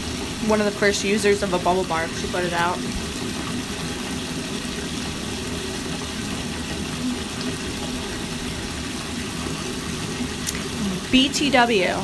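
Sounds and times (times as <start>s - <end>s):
bathtub faucet running: 0.0s - 12.0s.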